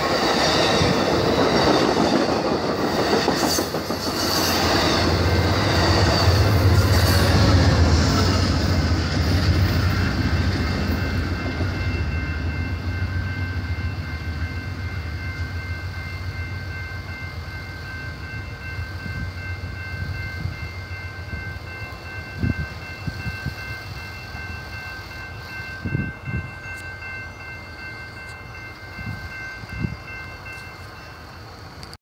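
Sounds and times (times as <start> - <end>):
high-pitched ringing tone: 0.0 - 31.9
train rumbling past: 0.0 - 32.0.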